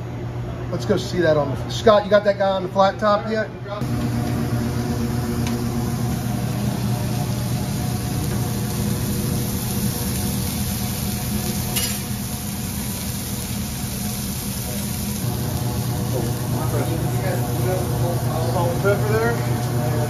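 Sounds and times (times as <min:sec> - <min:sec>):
burger patty sizzling on griddle: 0:03.8 - 0:20.0.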